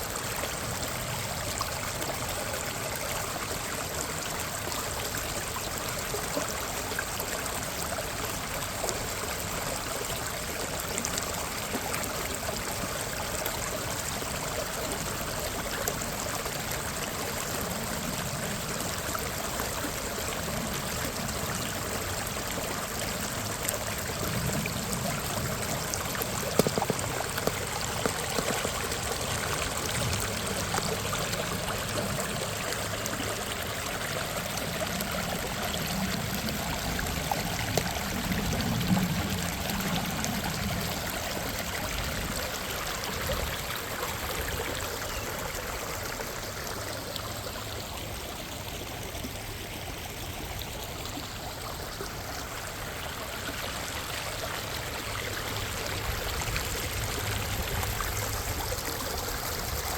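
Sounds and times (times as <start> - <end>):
creek water rushing and splashing: 0.0 - 59.9.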